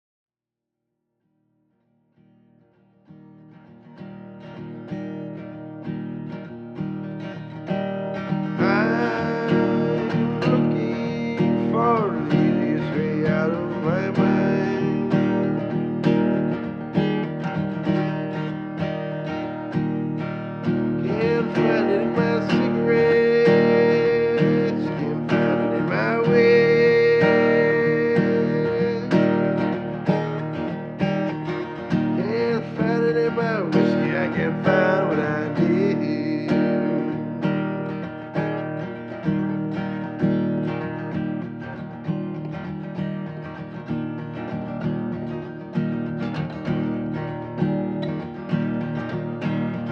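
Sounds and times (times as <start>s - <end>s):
acoustic guitar music: 1.8s - 49.9s.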